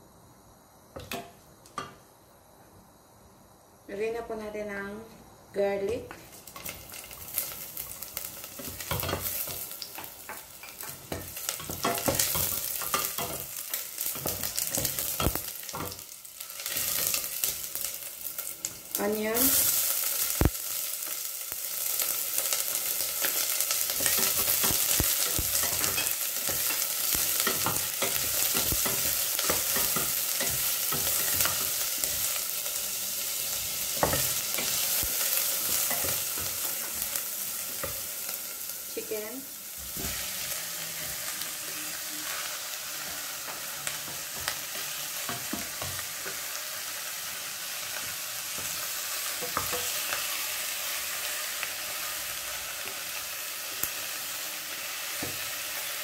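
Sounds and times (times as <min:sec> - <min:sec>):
food sizzling in oil: 0:05.5 - 0:56.0.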